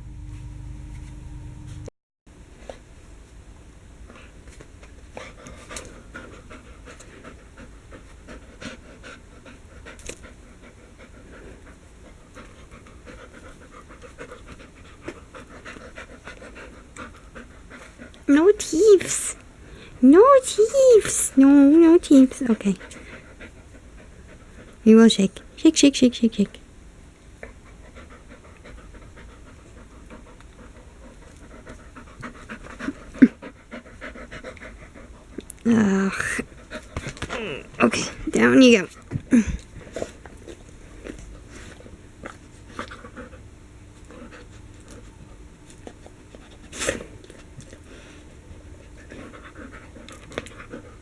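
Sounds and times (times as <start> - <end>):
dog panting: 4.1 - 25.9, 27.2 - 51.0.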